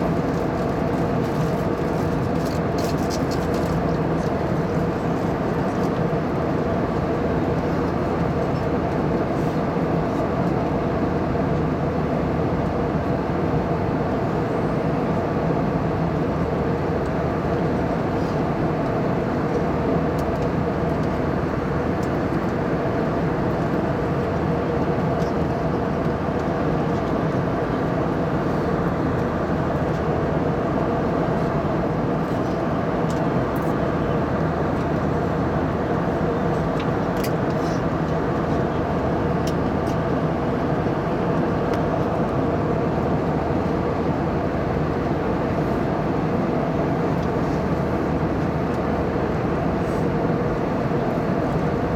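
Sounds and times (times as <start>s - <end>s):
constant low hum: 0.0s - 51.9s
jet engines and airflow rush: 0.0s - 51.9s.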